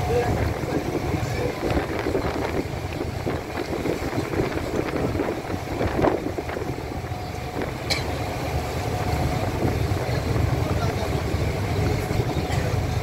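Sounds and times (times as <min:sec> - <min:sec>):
boat engine rumbling: 0:00.0 - 0:13.0
wind buffeting microphone: 0:00.0 - 0:13.0.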